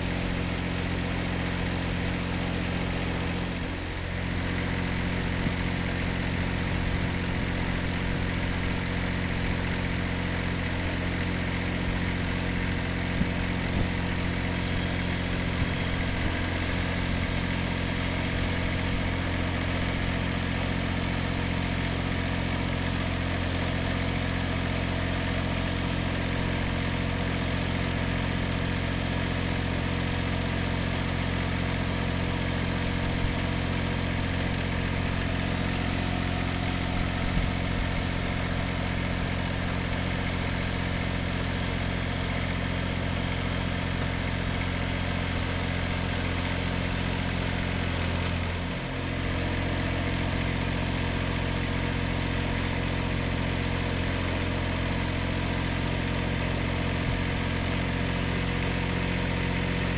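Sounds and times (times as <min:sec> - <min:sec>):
high whine: 0:00.0 - 0:59.9
vehicle engine idling: 0:00.0 - 0:59.9.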